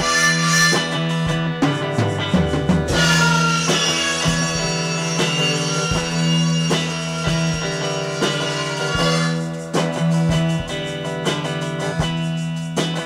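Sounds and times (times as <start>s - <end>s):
instrumental music with beat: 0.0s - 13.0s.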